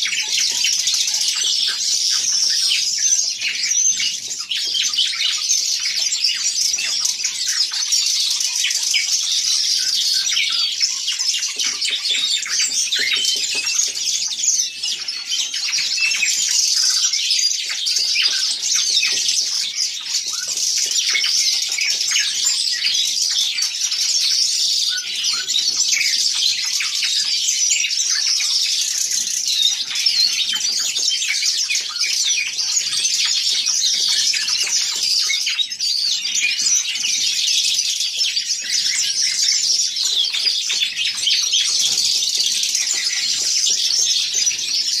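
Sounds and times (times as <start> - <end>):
songbirds twittering and singing: 0.0 - 45.0.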